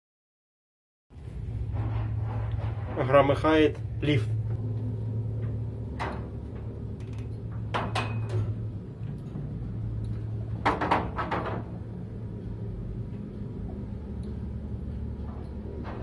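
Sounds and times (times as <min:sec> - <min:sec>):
elevator drive humming: 0:01.2 - 0:16.0
elevator knocking and clatter: 0:01.5 - 0:13.7, 0:15.0 - 0:16.0.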